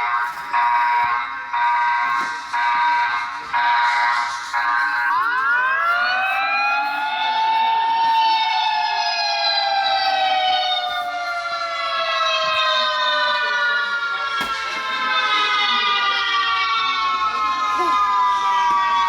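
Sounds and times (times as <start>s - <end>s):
emergency siren wailing: 0.0s - 19.0s.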